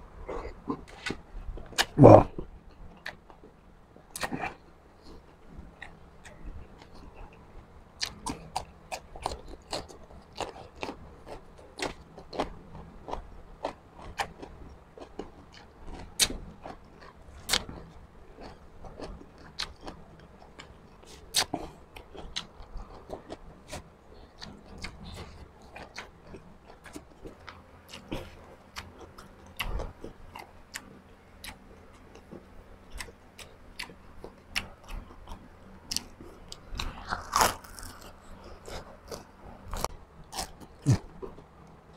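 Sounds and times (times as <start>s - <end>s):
person chewing food: 0.2s - 3.5s, 4.1s - 41.9s.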